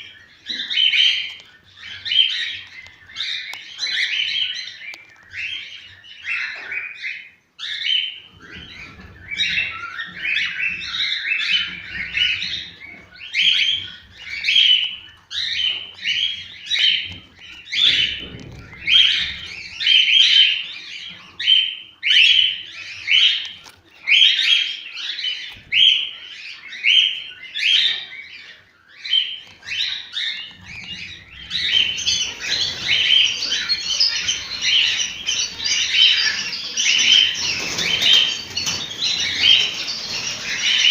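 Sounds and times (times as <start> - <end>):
birds chirping whistled notes: 0.0 - 40.9.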